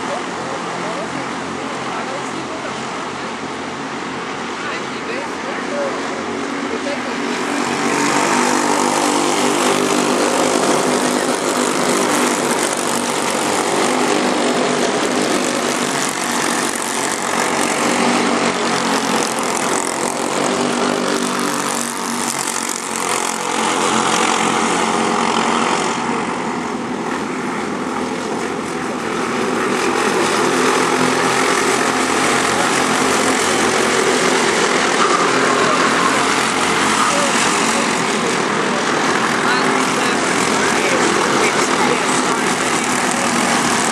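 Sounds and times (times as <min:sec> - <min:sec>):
kart engine revving: 0:00.0 - 0:43.9.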